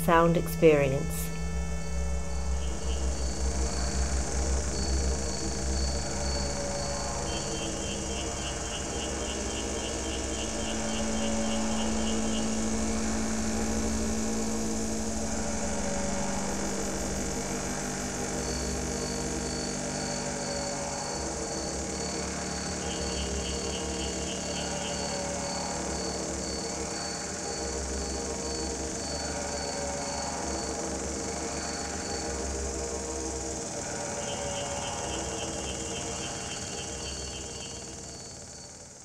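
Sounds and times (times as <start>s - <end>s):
layered electronic drones: 0.0s - 38.6s.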